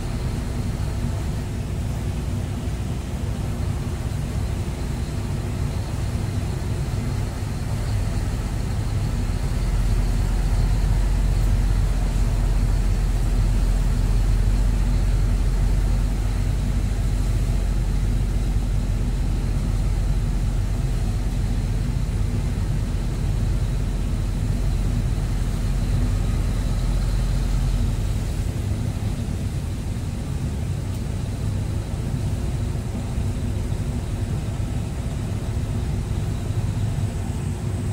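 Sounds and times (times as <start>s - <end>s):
diesel engine rumbling: 0.0s - 37.9s.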